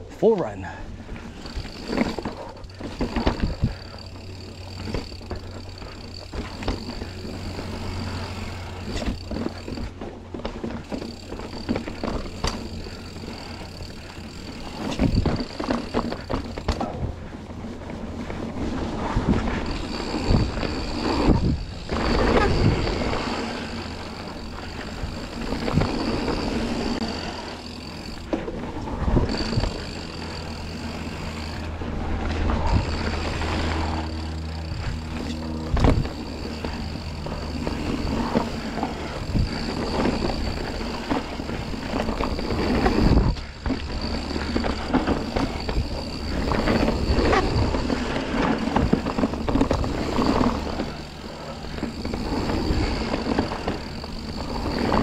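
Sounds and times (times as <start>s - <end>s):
steady high buzz: 0.0s - 55.0s
bike tyres rumbling on dirt: 0.7s - 55.0s
bike rattling over bumps: 0.8s - 55.0s.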